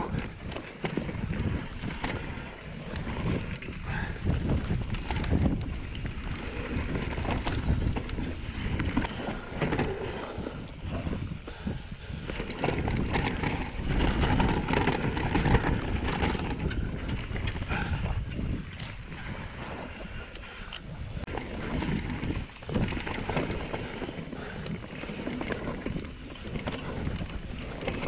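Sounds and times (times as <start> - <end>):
tyres rumbling over dirt: 0.0 - 18.1, 21.2 - 28.0
bike clacking and rattling: 0.0 - 28.0
wind buffeting microphone: 0.0 - 28.0.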